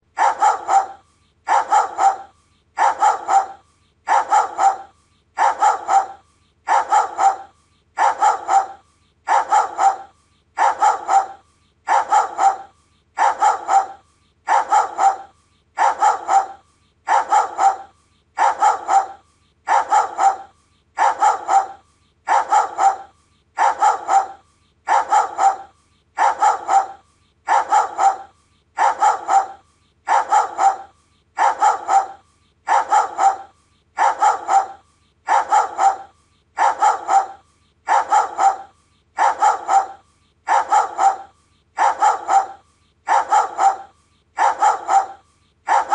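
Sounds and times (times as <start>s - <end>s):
dog barking in bursts: 0.1s - 45.9s.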